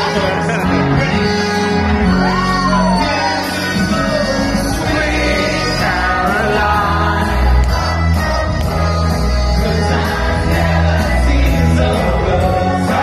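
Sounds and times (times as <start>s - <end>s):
crowd singing along: 0.0s - 13.0s.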